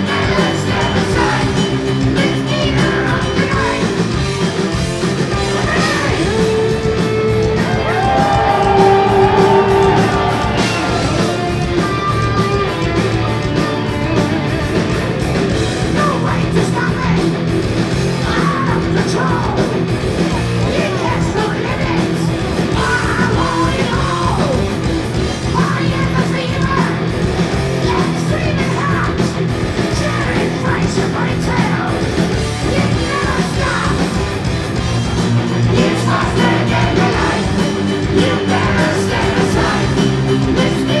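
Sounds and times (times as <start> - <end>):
singer shouting and singing: 0.0 - 4.1, 5.3 - 12.0, 15.8 - 17.4, 18.1 - 19.8, 20.4 - 24.8, 25.4 - 34.3, 35.6 - 41.0
heavy metal band playing live: 0.0 - 41.0.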